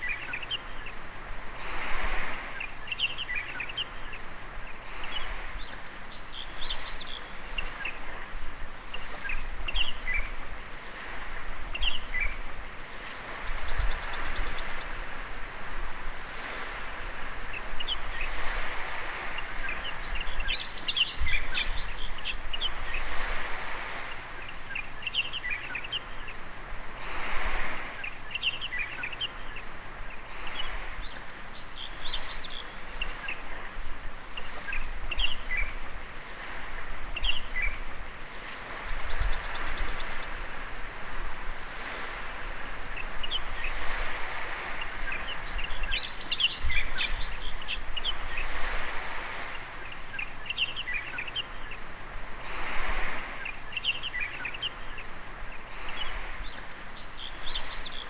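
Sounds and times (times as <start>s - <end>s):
birds chirping: 0.0s - 1.1s, 2.1s - 15.5s, 16.3s - 26.6s, 27.4s - 40.9s, 41.7s - 58.0s
small waves washing onto beach: 0.0s - 58.0s.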